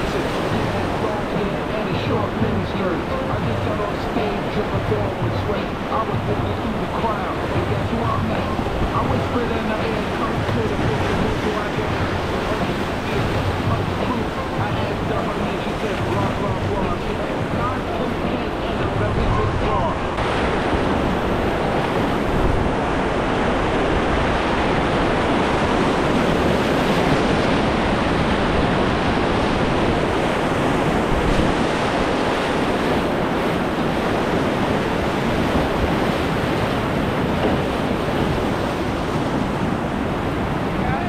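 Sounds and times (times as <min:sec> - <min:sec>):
whitewater rapids rushing: 0:00.0 - 0:41.0.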